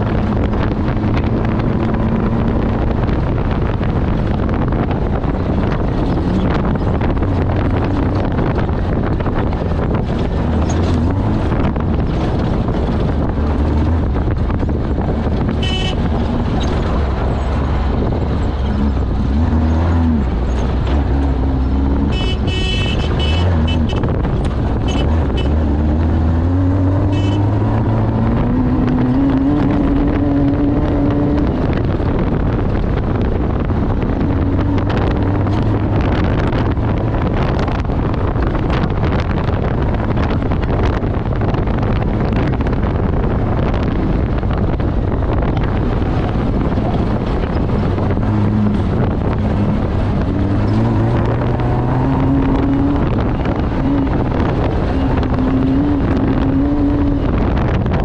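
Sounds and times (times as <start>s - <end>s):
off-road vehicle engine revving: 0.0s - 58.0s
wind noise: 0.0s - 58.0s.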